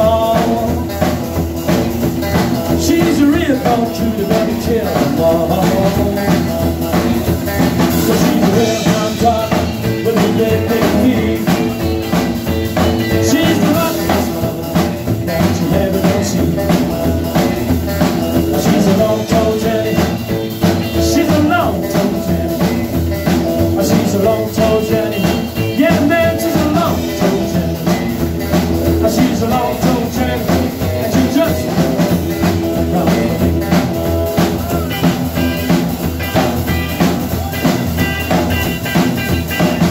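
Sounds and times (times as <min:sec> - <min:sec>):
live rock and roll band: 0:00.0 - 0:39.9
man singing: 0:00.0 - 0:39.9.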